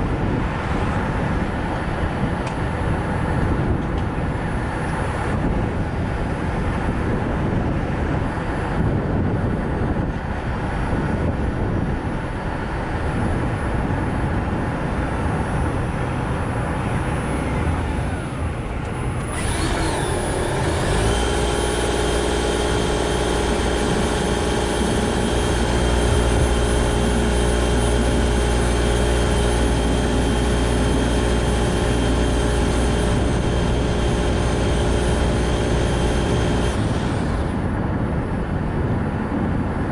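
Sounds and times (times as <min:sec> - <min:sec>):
steady engine hum: 0:00.0 - 0:39.9
tyre and road rumble: 0:00.0 - 0:39.9.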